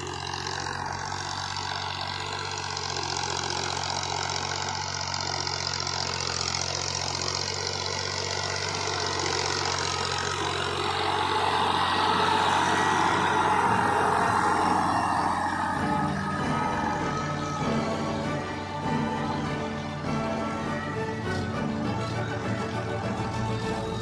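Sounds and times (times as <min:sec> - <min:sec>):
tractor engine running under load: 0:00.0 - 0:24.0.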